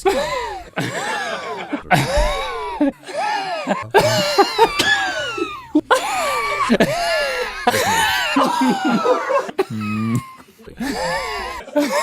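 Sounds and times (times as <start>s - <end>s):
man wheezing laughter: 0.0s - 12.0s.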